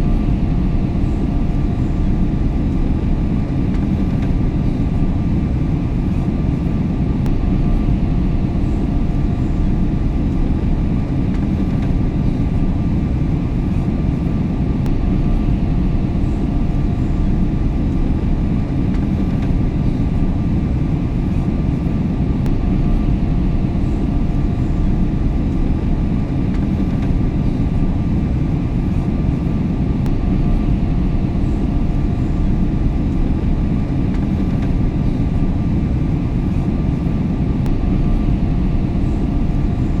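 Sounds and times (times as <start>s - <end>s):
aeroplane engines and rushing air: 0.0s - 40.0s.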